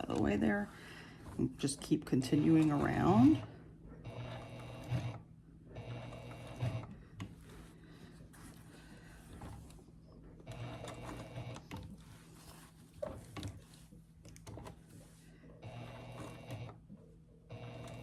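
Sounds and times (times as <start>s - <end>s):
sewing machine stitching: 0.0s - 16.9s, 17.5s - 18.0s.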